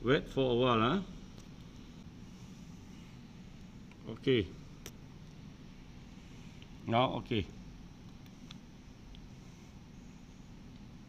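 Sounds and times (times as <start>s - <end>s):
low steady background hum: 0.0s - 11.0s.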